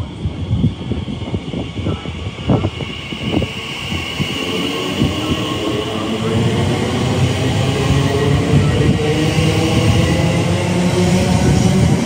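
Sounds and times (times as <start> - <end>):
steady high whine: 0.0 - 11.6
electric train wheels on rail: 0.0 - 12.0.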